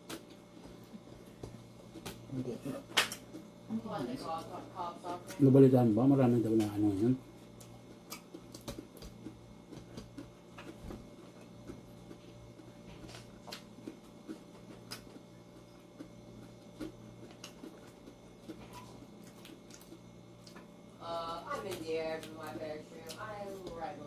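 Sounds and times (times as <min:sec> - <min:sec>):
chewing: 0:00.0 - 0:05.5, 0:06.5 - 0:23.9
steady low hum: 0:00.0 - 0:24.0.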